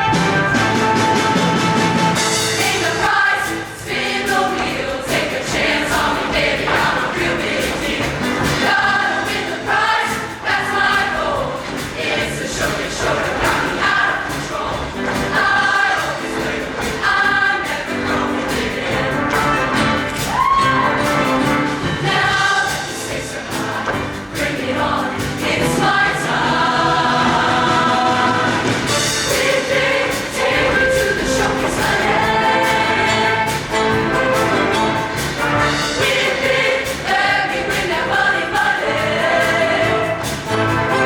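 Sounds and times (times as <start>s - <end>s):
choir singing: 0.0s - 41.0s
instrumental accompaniment: 0.0s - 41.0s.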